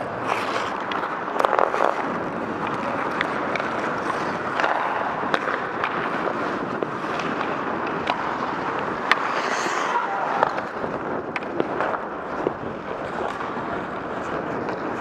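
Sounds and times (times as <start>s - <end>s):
hockey sticks and puck clacking: 0.0s - 15.0s
skates scraping on ice: 0.0s - 15.0s.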